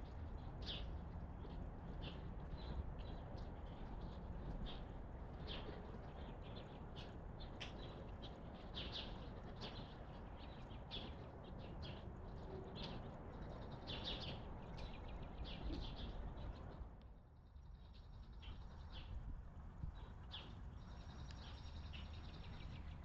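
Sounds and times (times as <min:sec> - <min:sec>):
small birds chirping: 0:00.3 - 0:16.8, 0:19.8 - 0:23.0.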